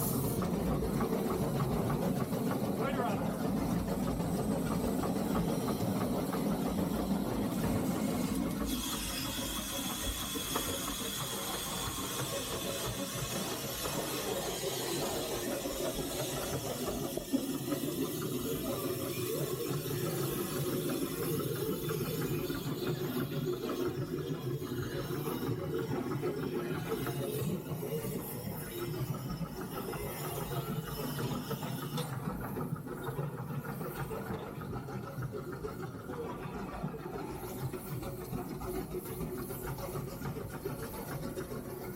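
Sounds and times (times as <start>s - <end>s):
steam hissing: 0.0s - 34.2s.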